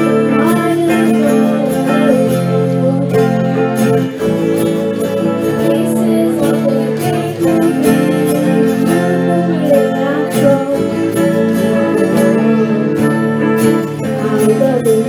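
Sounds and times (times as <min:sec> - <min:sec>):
live band through a pa: 0:00.0 - 0:15.0.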